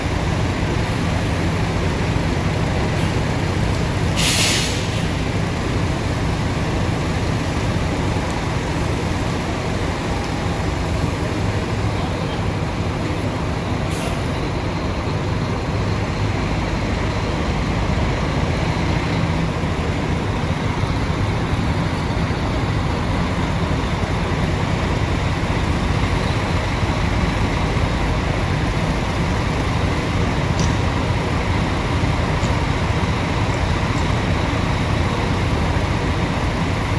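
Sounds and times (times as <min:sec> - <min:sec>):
bus diesel engine running: 0:00.0 - 0:36.9
road traffic: 0:00.0 - 0:36.9.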